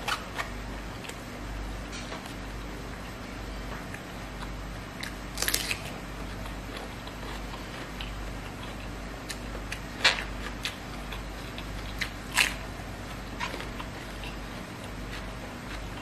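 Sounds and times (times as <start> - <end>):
person chewing food: 0.0 - 1.2, 1.9 - 16.0
low steady hum: 0.0 - 16.0.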